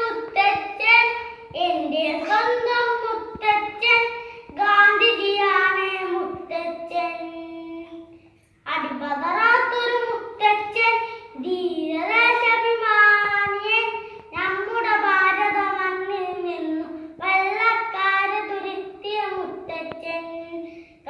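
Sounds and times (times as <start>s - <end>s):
boy singing unaccompanied: 0.0s - 20.7s.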